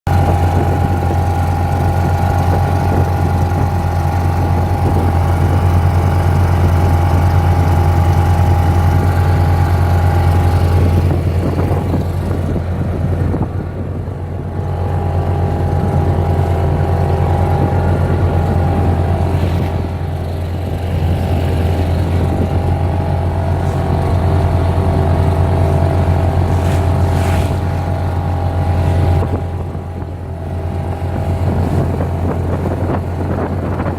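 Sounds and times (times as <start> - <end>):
outboard motor running: 0.0 - 33.9.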